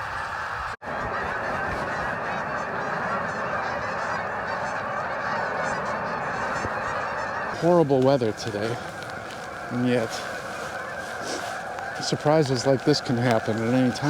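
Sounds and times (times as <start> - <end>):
flock of geese honking: 0.0 - 14.0.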